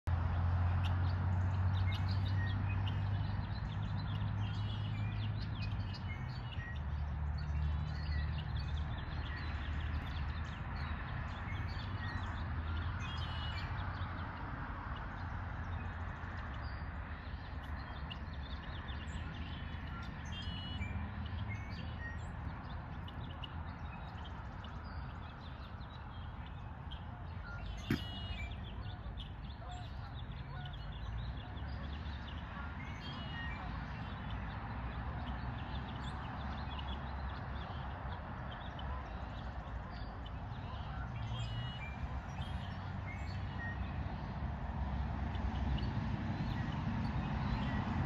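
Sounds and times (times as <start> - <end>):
small birds chirping: 0.3 - 48.0.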